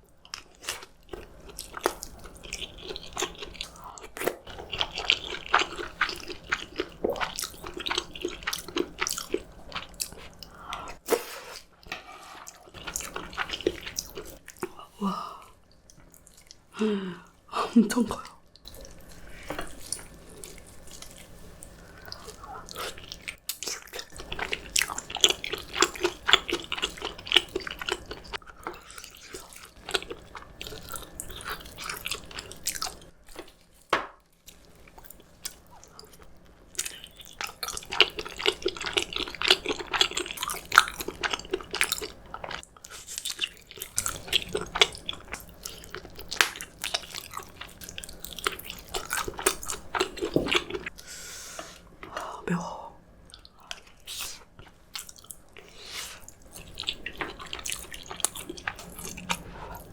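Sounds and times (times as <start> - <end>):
wet chewing and crunchy bites: 0.2 - 11.1, 12.6 - 14.8, 18.6 - 51.0, 53.2 - 59.9.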